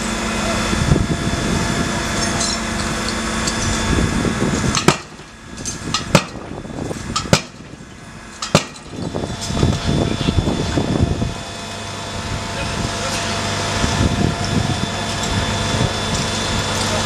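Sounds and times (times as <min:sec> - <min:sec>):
steady hiss and rumble: 0:00.0 - 0:17.0.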